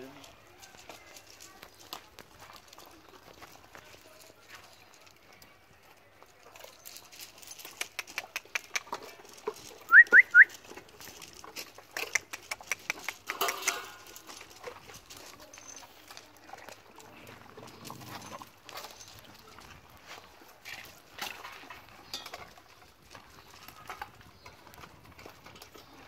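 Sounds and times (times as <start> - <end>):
dogs eating from metal bowls: 0.0 - 26.0.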